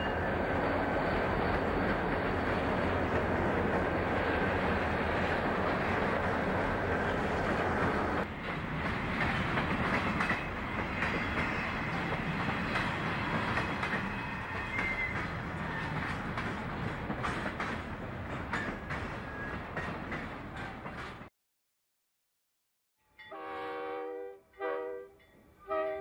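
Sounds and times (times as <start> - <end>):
freight train rumbling past: 0.0 - 21.3
wheels clacking over rail joints: 0.3 - 21.3.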